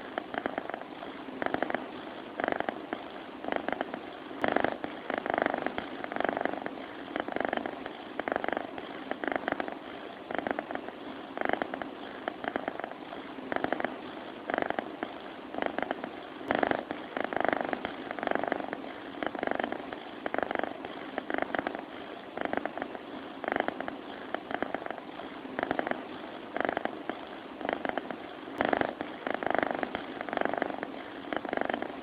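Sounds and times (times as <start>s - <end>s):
cat purring: 0.0s - 32.0s.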